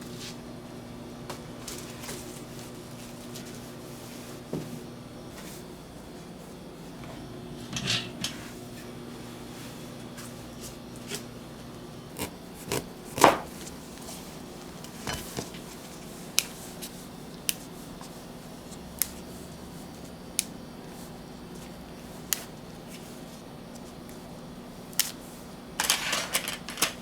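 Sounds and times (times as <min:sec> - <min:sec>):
steady low hum: 0:00.0 - 0:25.8.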